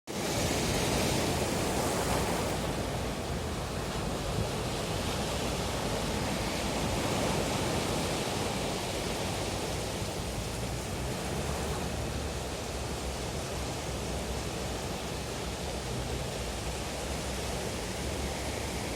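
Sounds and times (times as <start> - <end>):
wind: 0.0 - 18.9
sea surf washing on beach: 0.1 - 18.9.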